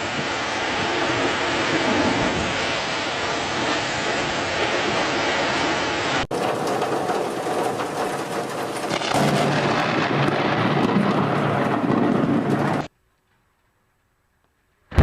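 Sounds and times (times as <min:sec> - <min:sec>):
rain hiss: 0:00.0 - 0:12.8
thunderclap rumbling: 0:00.0 - 0:12.9.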